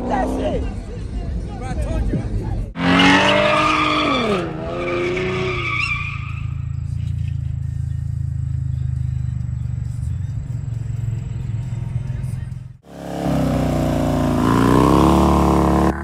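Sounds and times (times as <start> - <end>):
car engine revving: 2.7 - 16.0.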